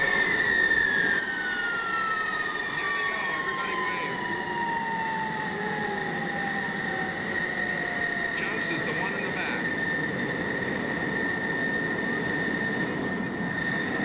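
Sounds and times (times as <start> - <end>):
falling jet engine whine: 0.0 - 14.0
steady high jet engine whine: 0.0 - 14.0.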